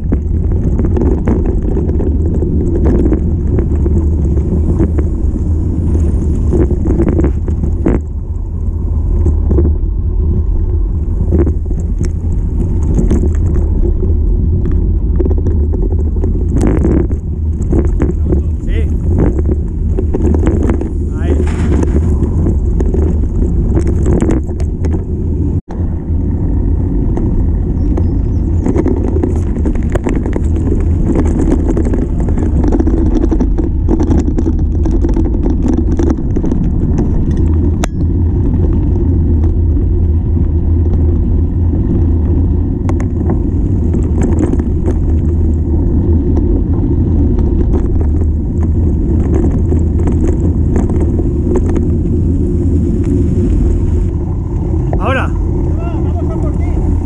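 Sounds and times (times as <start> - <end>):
bike clicks and rattles: 0.0 - 25.6, 26.2 - 57.0
bike tyres on gravel: 0.0 - 57.0
wind buffeting microphone: 0.0 - 57.0.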